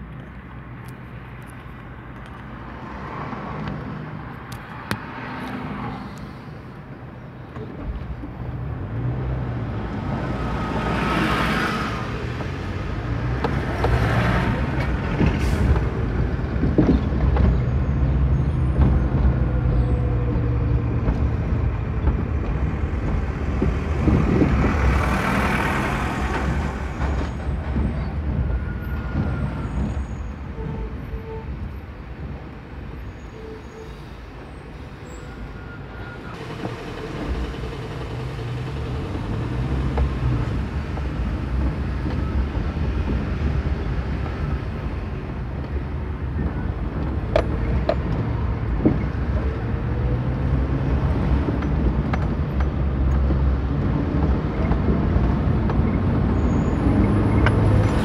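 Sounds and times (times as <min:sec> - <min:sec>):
bus engine rumble: 0:00.0 - 0:58.0
city traffic noise: 0:00.0 - 0:58.0.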